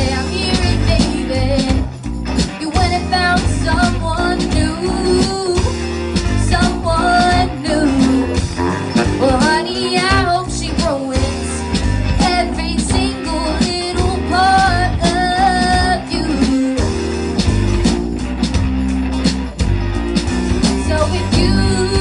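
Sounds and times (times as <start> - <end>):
woman singing: 0.0 - 8.6, 9.2 - 17.0, 20.7 - 22.0
rock band playing: 0.0 - 22.0.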